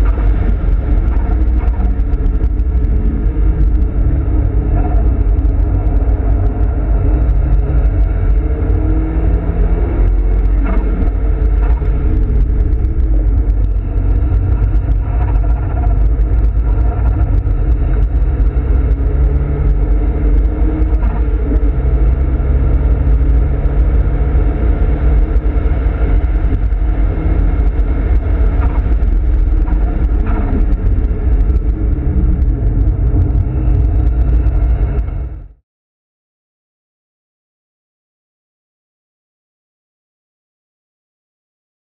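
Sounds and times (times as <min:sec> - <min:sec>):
car engine running hard: 0:00.0 - 0:35.6
road noise: 0:00.0 - 0:35.6.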